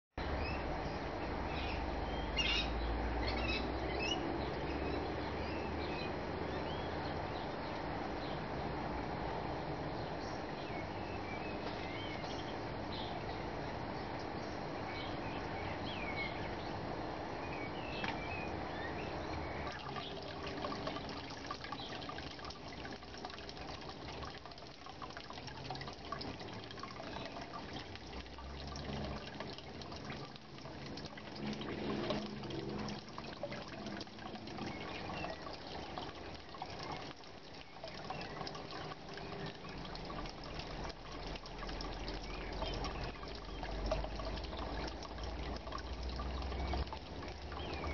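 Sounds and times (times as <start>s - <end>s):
water trickling and splashing: 0.2s - 47.9s.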